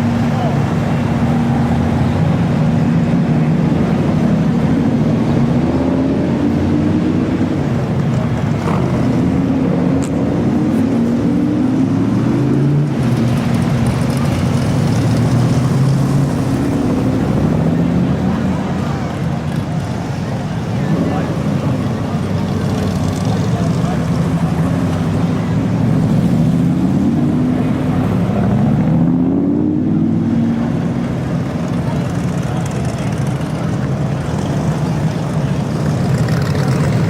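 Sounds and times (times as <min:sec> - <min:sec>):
car engines driving past: 0:00.0 - 0:37.0.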